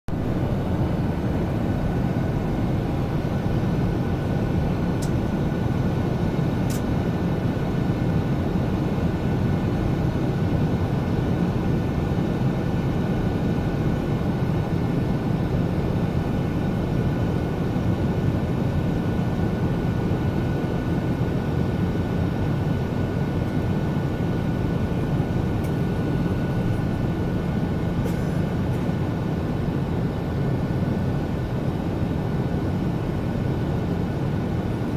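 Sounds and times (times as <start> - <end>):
airliner cabin engine noise: 0.1 - 34.9.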